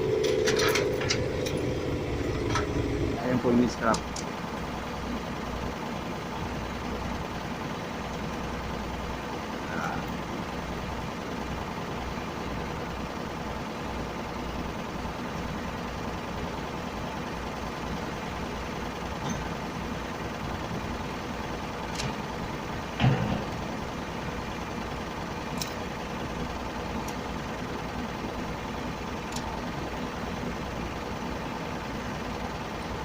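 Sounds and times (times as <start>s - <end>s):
engine idling hum: 0.0s - 33.0s.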